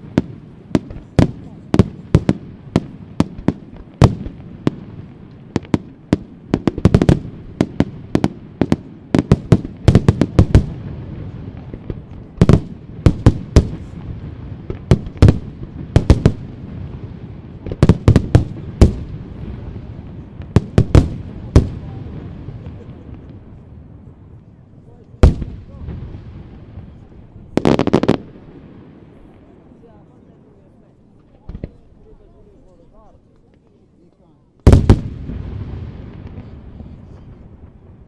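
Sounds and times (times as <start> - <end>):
fireworks bangs: 0.0 - 29.9, 31.2 - 31.9, 34.6 - 38.0.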